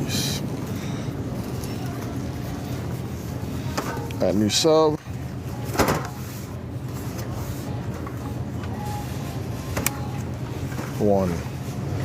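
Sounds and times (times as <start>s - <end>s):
grocery store background hum: 0.0s - 12.0s.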